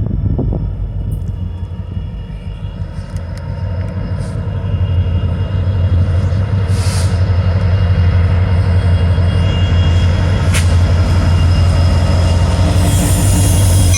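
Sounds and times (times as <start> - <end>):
diesel locomotive engine rumbling: 0.0 - 13.9.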